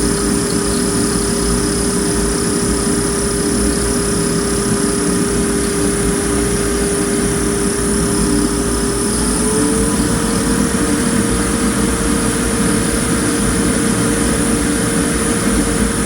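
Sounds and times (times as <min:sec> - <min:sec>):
faint high whine: 0:00.0 - 0:16.0
fan running with hum: 0:00.0 - 0:16.0.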